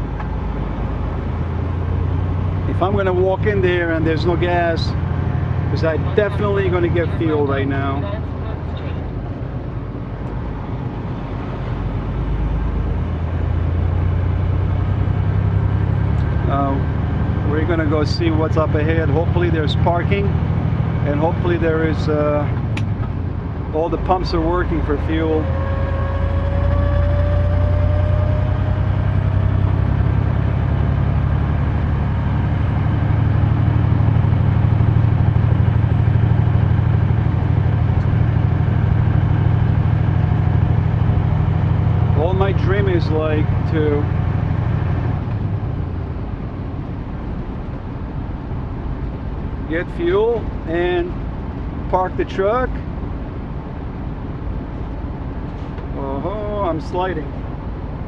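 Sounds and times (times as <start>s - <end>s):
diesel truck engine drone: 0.0s - 58.0s
road noise: 0.0s - 58.0s.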